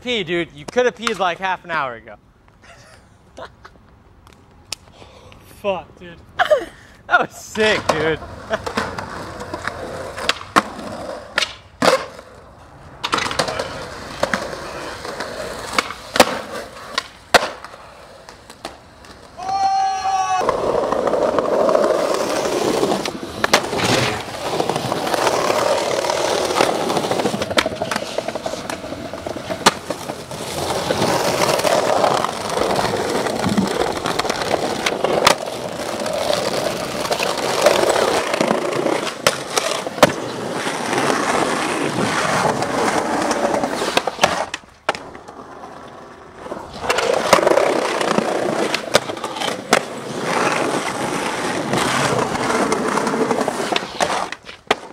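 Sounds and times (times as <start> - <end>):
skateboard clacking on ground: 0.6 - 1.4, 7.6 - 12.4, 13.0 - 40.4, 42.3 - 54.9
skateboard wheels rolling: 7.4 - 54.9.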